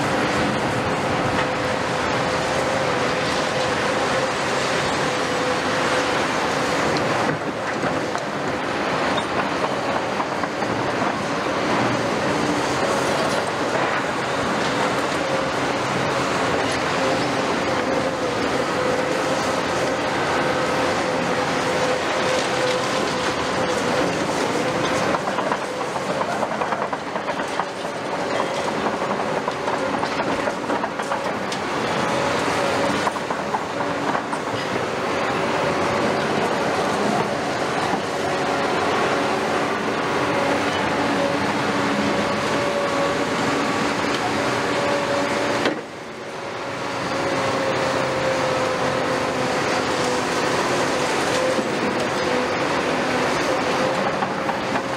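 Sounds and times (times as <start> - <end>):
steel tracks clanking and squealing: 0.0 - 54.9.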